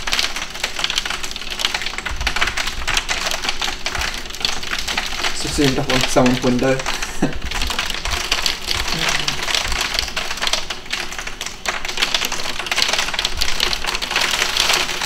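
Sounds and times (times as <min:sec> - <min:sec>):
hail and rain on window: 0:00.0 - 0:15.0.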